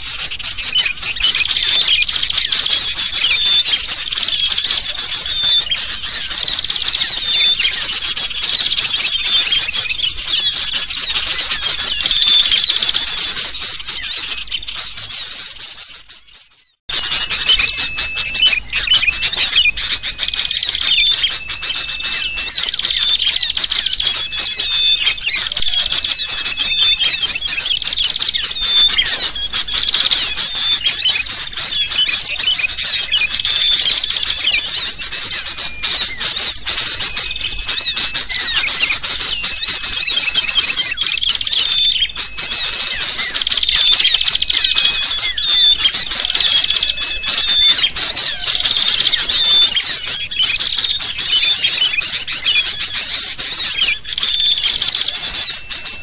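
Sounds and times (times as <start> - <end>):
bulbuls calling: 0.0 - 56.0
small birds chirping: 0.0 - 56.0.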